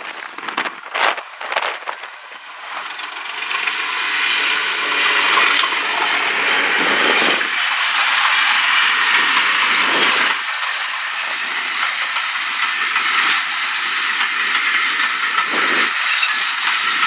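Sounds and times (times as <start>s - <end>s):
train wheels rattling on rails: 0.0s - 17.0s.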